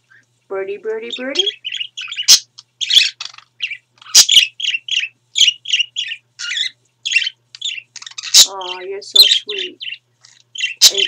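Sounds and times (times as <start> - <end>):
budgerigars chirping: 1.0 - 11.0.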